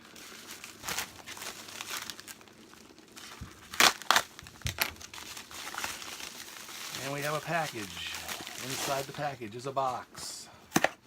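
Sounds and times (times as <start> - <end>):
package crinkling and rustling: 0.0 - 10.1.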